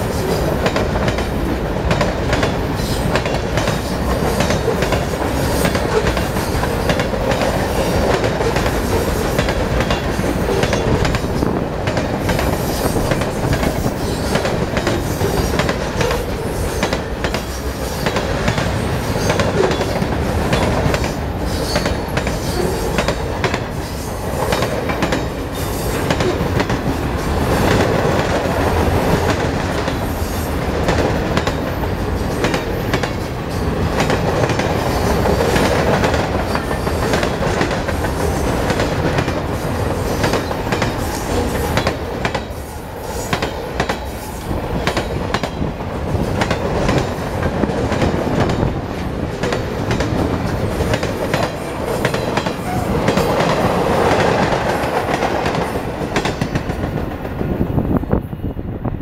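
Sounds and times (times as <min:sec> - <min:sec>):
freight train rumble: 0:00.0 - 0:59.0
wheels clacking over rail joints: 0:00.2 - 0:42.6, 0:43.2 - 0:57.4.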